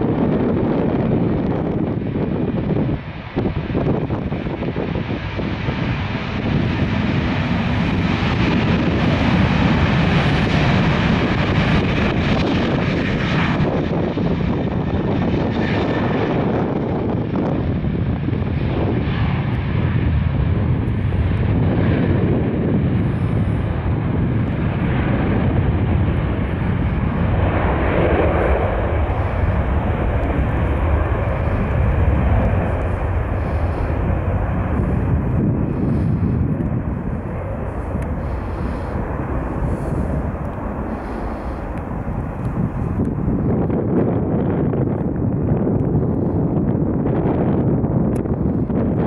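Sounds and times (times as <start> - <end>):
jet engines rumbling at takeoff: 0.0 - 49.0.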